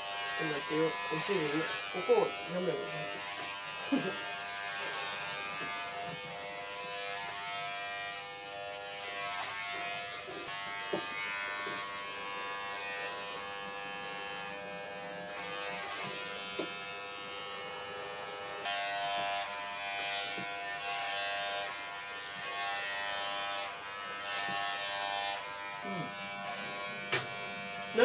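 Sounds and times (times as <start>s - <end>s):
electric clipper buzzing: 0.0s - 28.0s.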